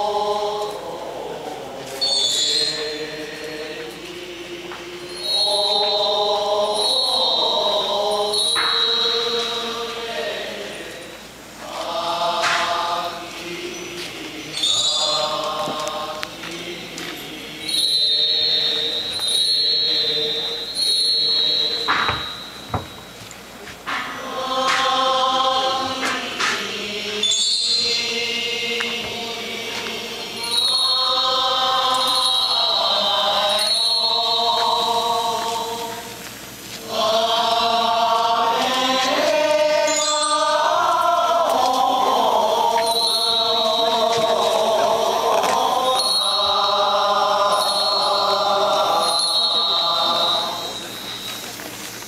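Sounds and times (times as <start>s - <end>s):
group singing hymns: 0.0s - 51.9s.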